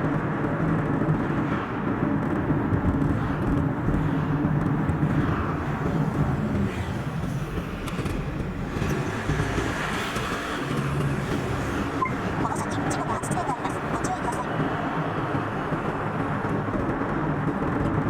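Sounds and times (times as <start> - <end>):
car engine and tyre noise: 0.0 - 18.0.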